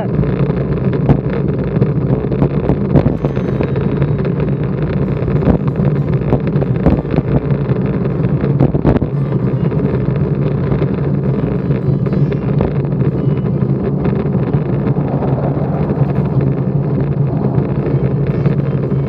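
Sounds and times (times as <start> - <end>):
vehicle rumbling on the move: 0.0 - 19.0
wind buffeting microphone: 0.0 - 19.0.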